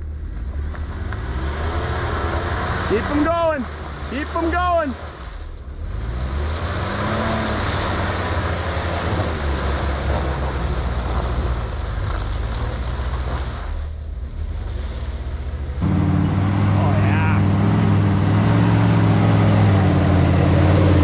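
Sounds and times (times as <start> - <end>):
engine revving: 0.0 - 21.0
tires churning through mud: 0.0 - 21.0.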